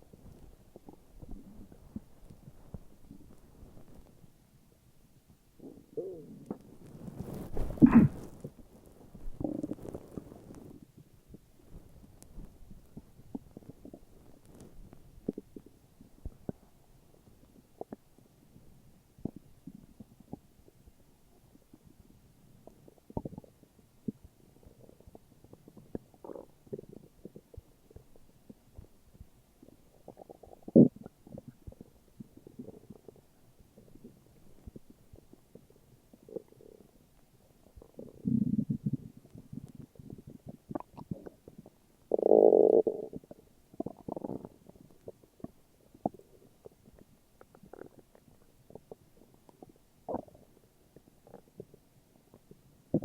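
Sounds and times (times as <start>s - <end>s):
stomach growling: 0.0s - 4.2s, 5.6s - 53.0s.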